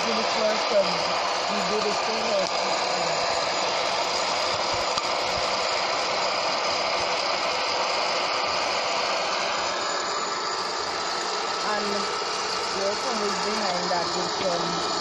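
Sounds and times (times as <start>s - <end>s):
blower fan hissing: 0.0s - 15.0s.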